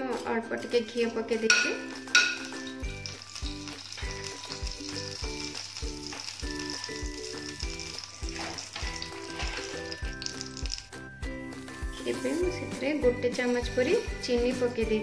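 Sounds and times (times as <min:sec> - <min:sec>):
background music with steady beat: 0:00.0 - 0:15.0
ghee sizzling in frying pan: 0:00.2 - 0:15.0.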